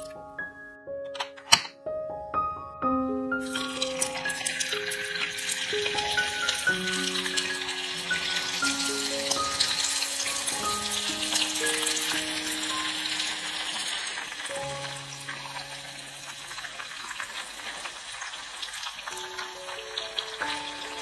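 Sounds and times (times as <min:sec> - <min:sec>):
hot oil sizzling: 0:03.4 - 0:21.0.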